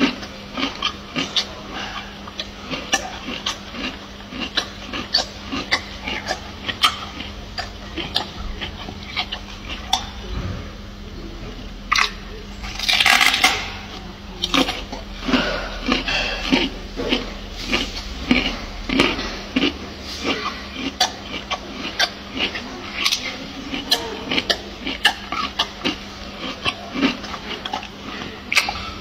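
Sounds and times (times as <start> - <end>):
gorilla chewing crunchily: 0.0 - 29.0
mouth smacks: 0.0 - 29.0.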